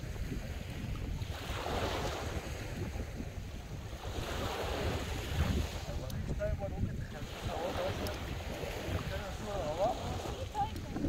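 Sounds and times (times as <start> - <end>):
small waves breaking on shore: 0.0 - 11.0
wind buffeting microphone: 0.0 - 11.0.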